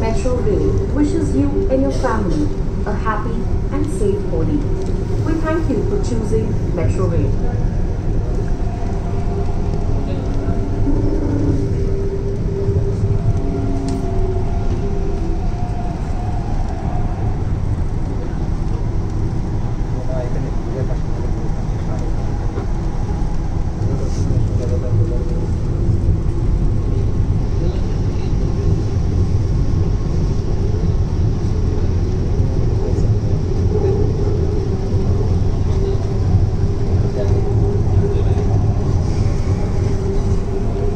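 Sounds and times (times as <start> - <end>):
faint train whine: 0.0 - 40.9
train wheels rumbling on track: 0.0 - 40.9.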